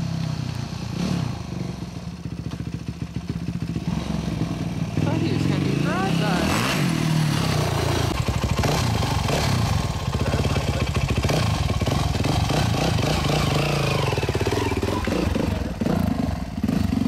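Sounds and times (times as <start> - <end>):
dirt bike engine revving: 0.7 - 2.0, 2.7 - 17.0.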